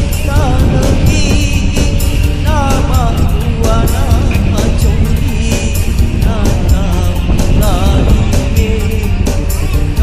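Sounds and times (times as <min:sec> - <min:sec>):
person singing over a beat: 0:00.0 - 0:10.0.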